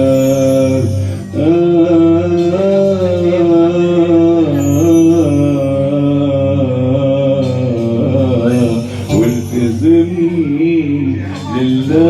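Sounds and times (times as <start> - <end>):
instrumental accompaniment: 0.0 - 12.0
man singing ornamented vowel: 0.0 - 12.0.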